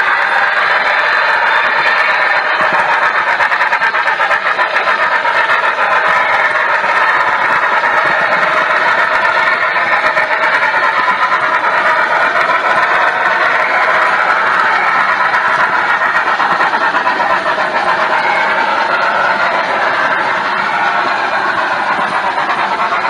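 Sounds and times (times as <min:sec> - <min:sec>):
metal wheels clicking on rails: 0:00.0 - 0:23.0
model train rolling rumble: 0:00.0 - 0:23.0.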